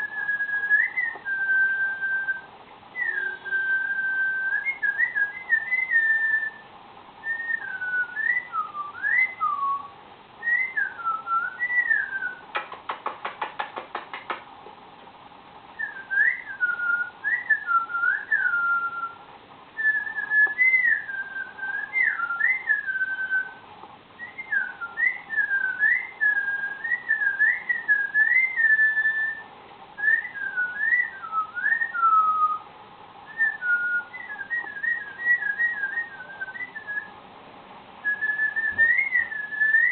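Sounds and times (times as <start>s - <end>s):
cockatiel whistling: 0.0s - 14.3s, 15.8s - 19.2s, 19.8s - 23.6s, 24.2s - 37.2s, 38.0s - 39.9s.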